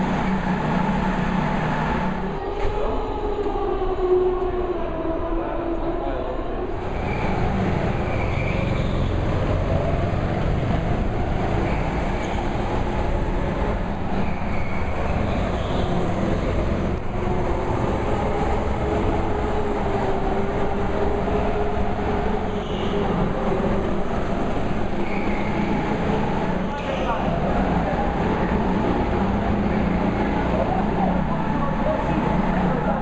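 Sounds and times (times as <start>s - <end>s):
go-kart motors droning: 0.0s - 33.0s.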